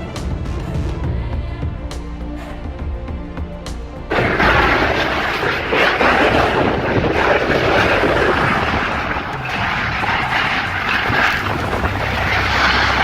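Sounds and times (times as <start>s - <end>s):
background music: 0.0s - 13.0s
loud steady rushing noise: 0.0s - 13.0s.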